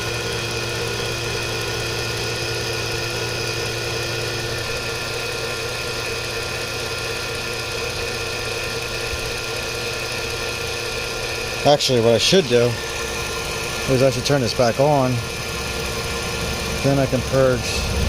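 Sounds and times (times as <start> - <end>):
vacuum pump humming: 0.0 - 18.0.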